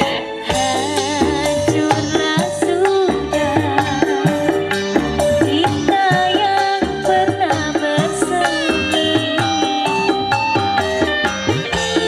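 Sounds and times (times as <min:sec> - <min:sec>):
wavering bending melody: 0:00.0 - 0:12.0
hand drum beat: 0:00.6 - 0:12.0.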